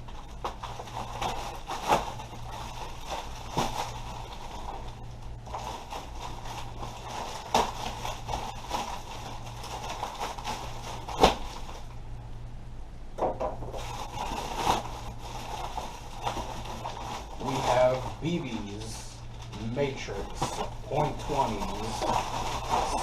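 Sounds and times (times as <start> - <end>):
steady low hum: 0.0 - 23.0
packaging knocks and rustles: 0.1 - 11.9, 13.2 - 18.6, 19.3 - 23.0.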